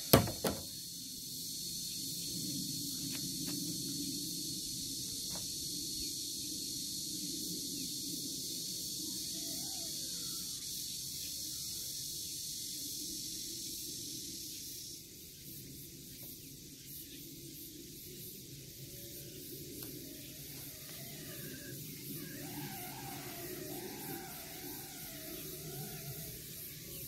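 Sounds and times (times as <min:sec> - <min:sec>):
high-pitched hiss: 0:00.0 - 0:27.0.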